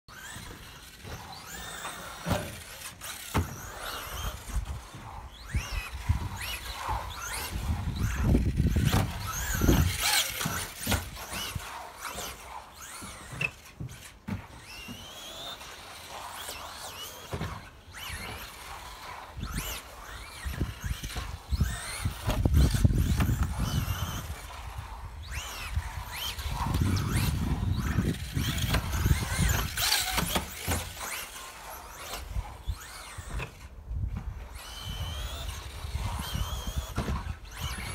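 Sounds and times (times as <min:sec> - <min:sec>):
rc car motor whine: 0:00.1 - 0:37.9.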